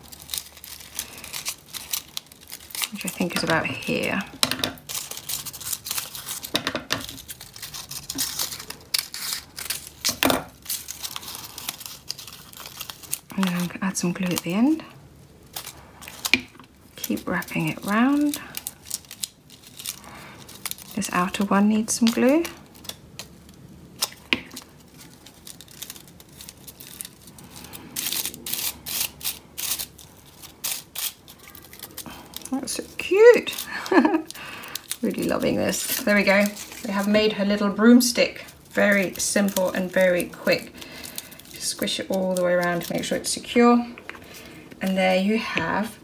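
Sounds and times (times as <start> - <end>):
paper crinkling and rustling: 0.0 - 46.0.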